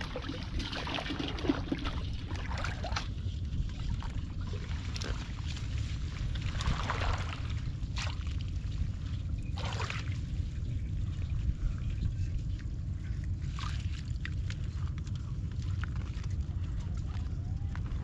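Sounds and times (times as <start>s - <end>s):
shallow water splashing: 0.0s - 11.4s, 12.4s - 18.0s
low rumble: 0.0s - 18.0s.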